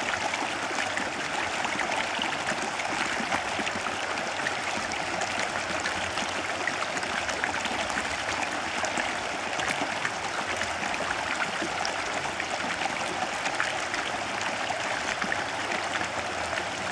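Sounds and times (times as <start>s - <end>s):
river babbling over stones: 0.0s - 16.9s.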